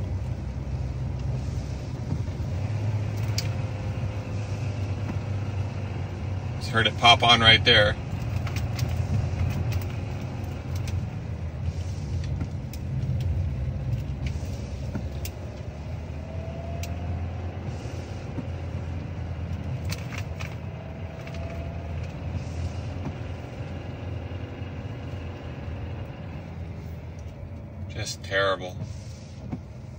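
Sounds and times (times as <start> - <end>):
car engine low drone: 0.0 - 29.9
tyre noise on wet road: 0.0 - 29.9.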